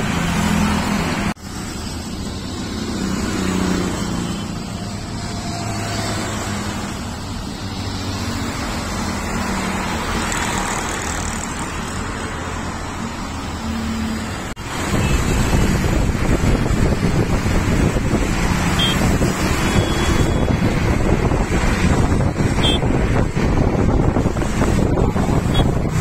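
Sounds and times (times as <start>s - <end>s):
cars and motorcycles driving by: 0.0s - 26.0s.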